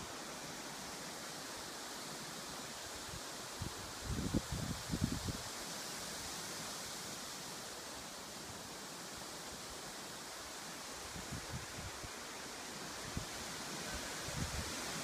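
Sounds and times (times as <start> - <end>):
wind rustling treetops: 0.0 - 15.0.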